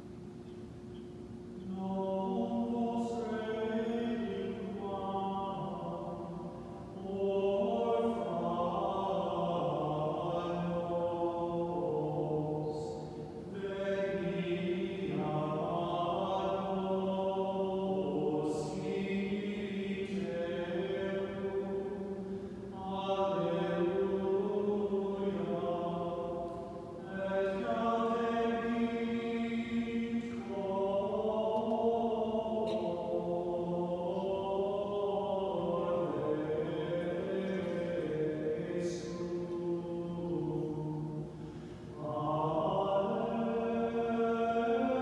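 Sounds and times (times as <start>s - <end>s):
slow chanted singing: 0.0s - 45.0s.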